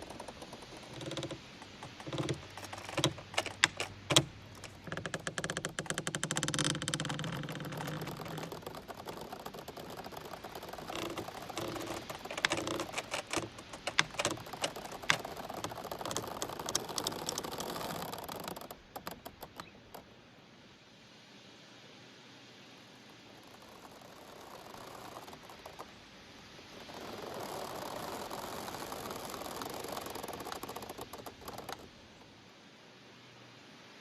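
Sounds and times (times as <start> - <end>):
bamboo clicks and squeaks: 0.0 - 20.1, 23.4 - 32.2
bamboo stalks creaking: 0.0 - 20.1, 23.2 - 32.2.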